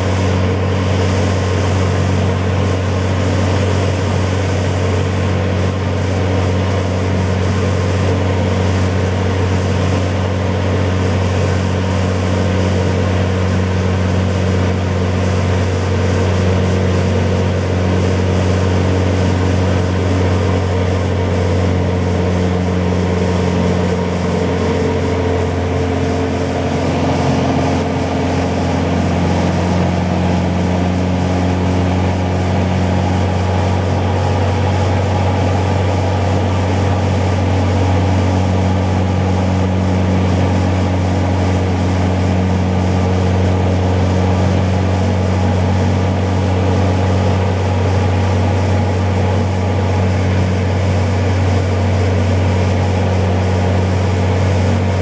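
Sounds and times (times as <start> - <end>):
light aircraft engine drone: 0.0 - 55.0
rushing air noise: 0.0 - 55.0.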